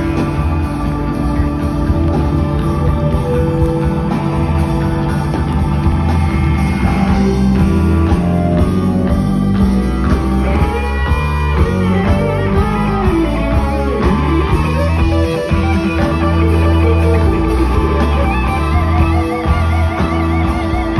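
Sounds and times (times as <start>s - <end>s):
drum kit: 0.0s - 20.9s
electric blues guitar solo: 0.0s - 20.9s.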